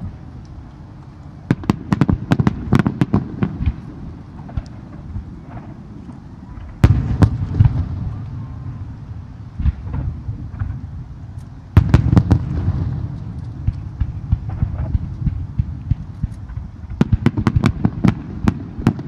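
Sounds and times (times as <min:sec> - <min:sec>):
fireworks exploding: 0:01.4 - 0:19.0.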